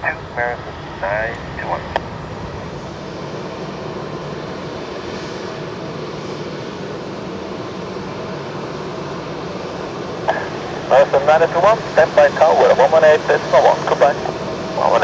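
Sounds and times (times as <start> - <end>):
faint jet whine: 0.0 - 15.0
jet engine rumble and hiss: 0.0 - 15.0.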